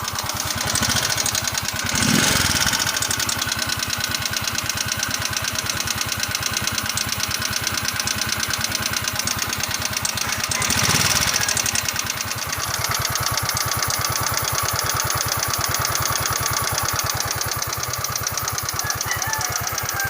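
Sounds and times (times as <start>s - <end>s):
scooter engine idling with ticking: 0.0s - 20.0s.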